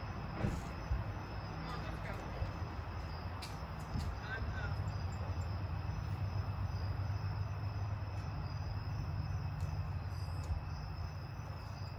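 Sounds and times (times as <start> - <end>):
faint crickets chirping: 0.0 - 11.9.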